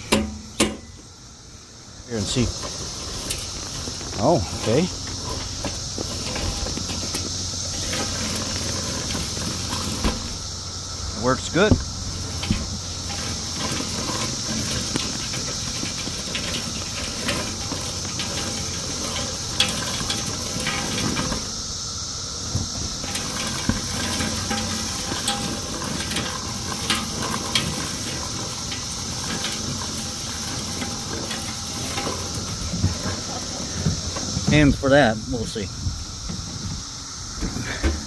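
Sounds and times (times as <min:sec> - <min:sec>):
cicada chorus drone: 0:00.0 - 0:38.0
lawn sweeper brushes rushing: 0:00.0 - 0:38.0.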